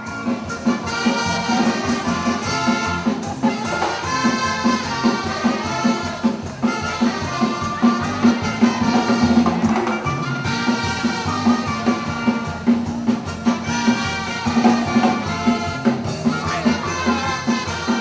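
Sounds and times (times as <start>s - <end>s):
drum kit and cymbals: 0.0s - 18.0s
horns playing a melody: 0.0s - 18.0s.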